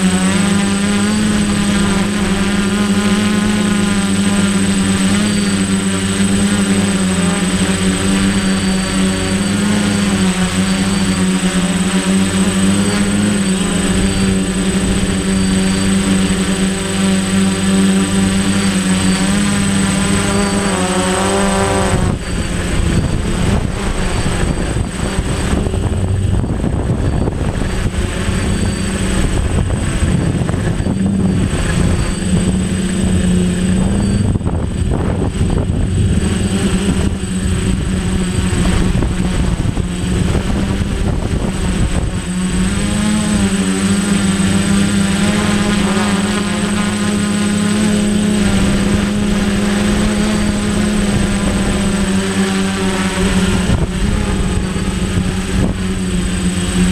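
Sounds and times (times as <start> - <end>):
drone motors whining: 0.0 - 56.9
thin high whine: 0.0 - 56.9
wind buffeting microphone: 0.0 - 56.9.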